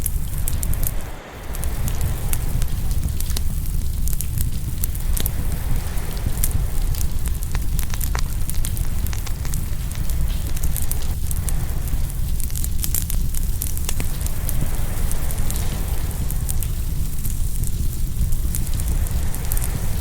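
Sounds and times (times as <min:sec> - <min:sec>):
ocean waves rumbling: 0:00.0 - 0:20.0
wood fire crackling and popping: 0:00.0 - 0:20.0.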